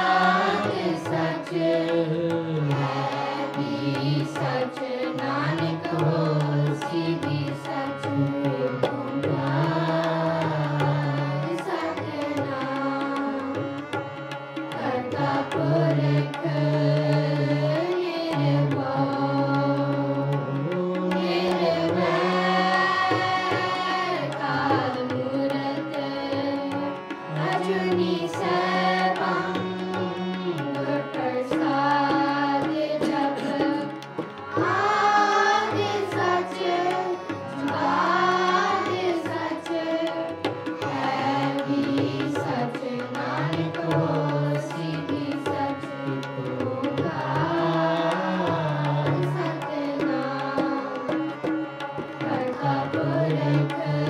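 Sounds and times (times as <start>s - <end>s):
devotional hymn singing: 0.0s - 54.0s
harmonium: 0.0s - 54.0s
tabla playing steady rhythm: 0.0s - 54.0s.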